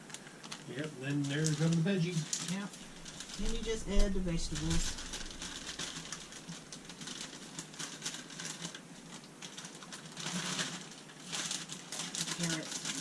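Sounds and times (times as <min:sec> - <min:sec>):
frozen vegetables pouring into skillet: 0:00.0 - 0:13.0
plastic bag rustling: 0:00.0 - 0:13.0.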